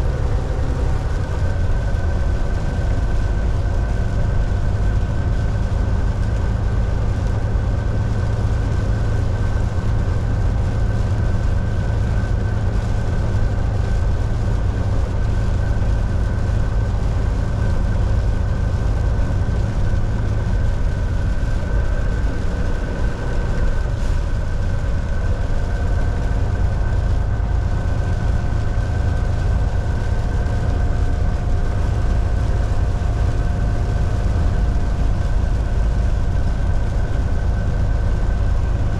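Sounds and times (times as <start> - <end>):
constant high whine: 0.0 - 38.9
truck engine and road rumble: 0.0 - 38.9.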